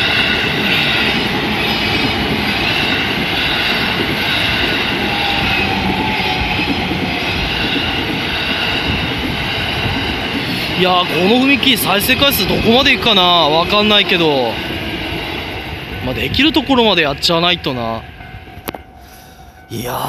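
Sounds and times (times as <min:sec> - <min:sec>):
train wheels on rails: 0:00.0 - 0:19.7
crossing warning bells: 0:00.0 - 0:20.0.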